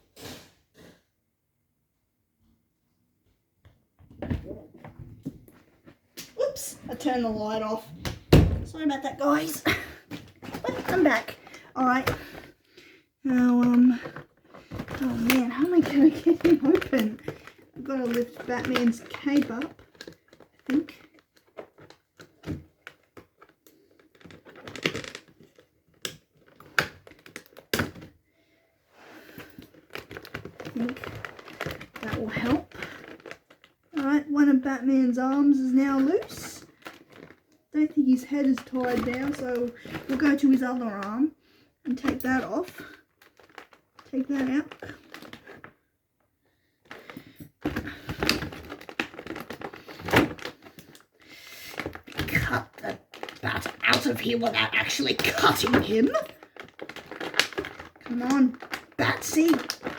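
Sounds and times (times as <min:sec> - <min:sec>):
plastic packaging crinkling and clicking: 0:05.2 - 0:28.3, 0:29.2 - 0:59.9.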